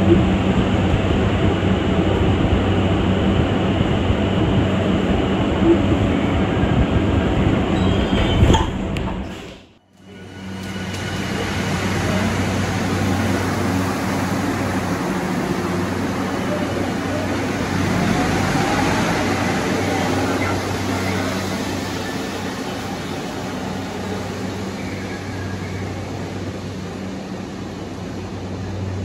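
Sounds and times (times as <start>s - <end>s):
metro train rumbling: 0.0s - 29.0s.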